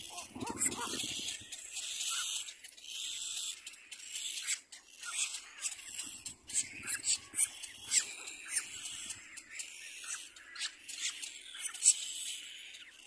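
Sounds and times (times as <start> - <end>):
bird chicks hissing begging calls: 0.0 - 12.8.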